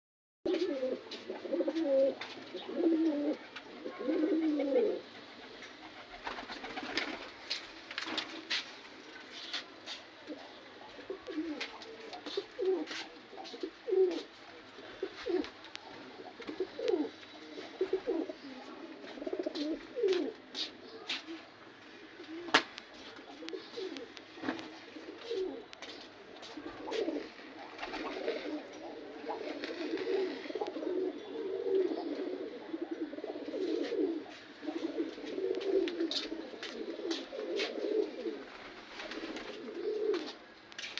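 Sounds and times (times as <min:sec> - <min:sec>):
pigeons cooing: 0:00.5 - 0:40.6.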